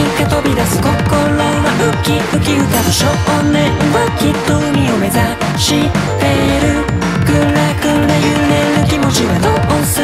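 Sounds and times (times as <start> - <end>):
pop-rock band playing: 0.0 - 10.0.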